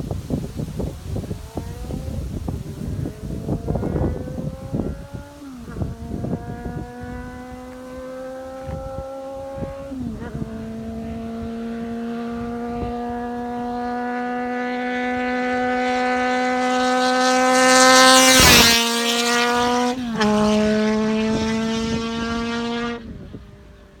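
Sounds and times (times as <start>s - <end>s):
motorcycle passing at high revs: 0.0s - 24.0s.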